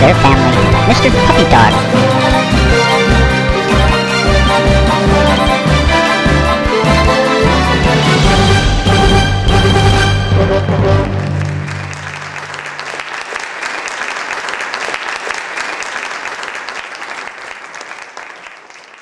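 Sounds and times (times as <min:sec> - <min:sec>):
audience applauding: 0:00.4 - 0:09.1, 0:10.0 - 0:19.0.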